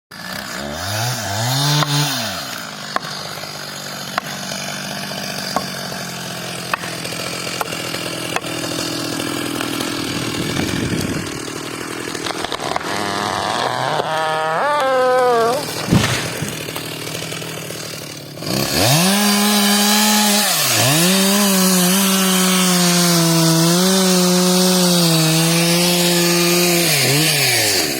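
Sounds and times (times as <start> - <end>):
chainsaw revving: 0.1 - 27.9.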